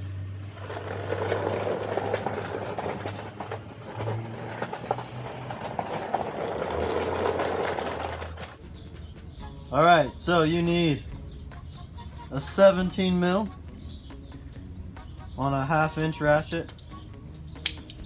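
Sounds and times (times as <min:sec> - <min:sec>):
creeper casters rolling on concrete: 0:00.0 - 0:18.0.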